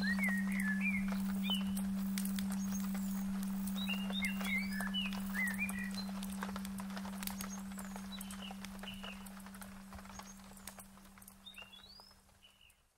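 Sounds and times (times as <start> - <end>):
steady low tone: 0.0 - 11.4
small birds chirping: 0.0 - 12.9.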